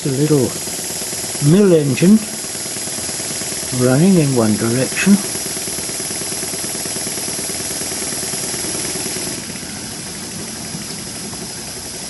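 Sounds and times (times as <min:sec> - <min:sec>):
mechanical clicking: 0:00.0 - 0:09.8
model engine exhaust puffs: 0:00.0 - 0:12.0.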